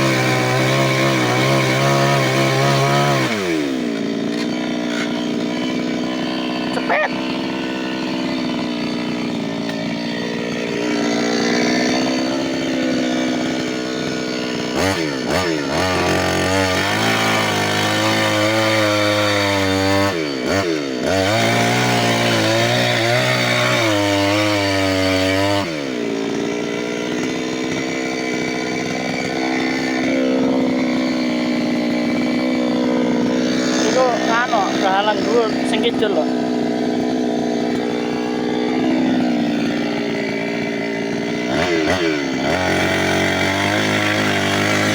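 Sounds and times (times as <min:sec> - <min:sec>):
chainsaw running at high revs: 0:00.0 - 0:44.9.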